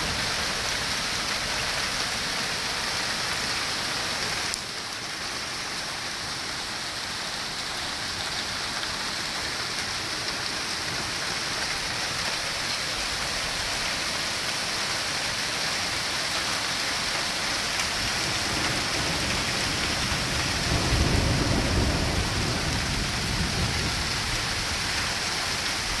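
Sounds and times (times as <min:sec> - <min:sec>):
heavy rain and hail: 0:00.0 - 0:26.0.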